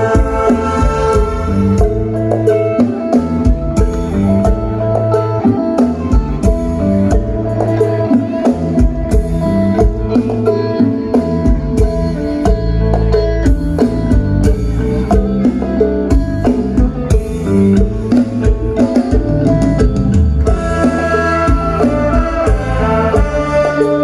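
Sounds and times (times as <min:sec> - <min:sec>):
steady drum beat: 0:00.0 - 0:24.0.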